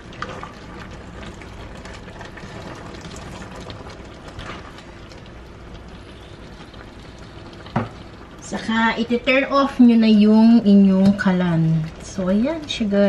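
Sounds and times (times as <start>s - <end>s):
stew sizzling in a frying pan: 0.0s - 13.0s.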